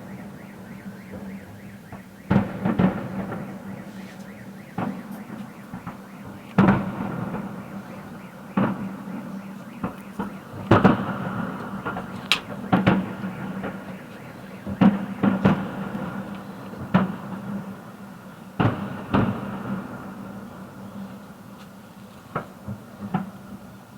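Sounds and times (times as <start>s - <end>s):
fireworks bursting: 0.0s - 17.8s, 18.5s - 21.6s.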